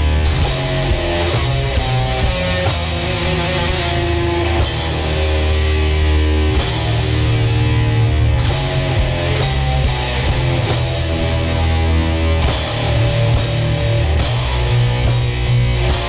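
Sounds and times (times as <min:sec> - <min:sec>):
heavy rock band: 0:00.0 - 0:16.0.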